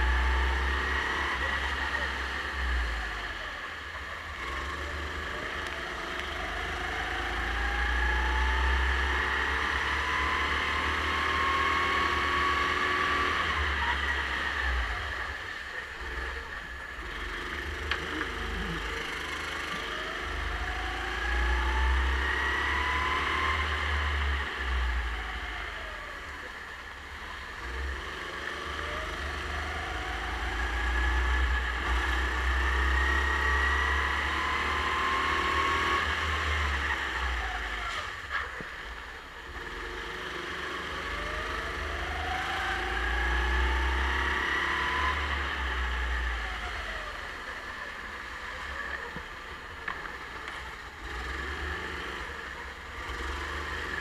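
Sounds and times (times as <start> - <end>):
kart engine accelerating: 0.0 - 54.0.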